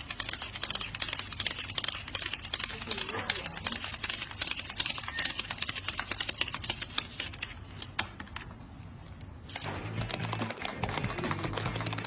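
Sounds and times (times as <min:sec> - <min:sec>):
banknotes flicking: 0:00.0 - 0:08.5, 0:09.5 - 0:12.0.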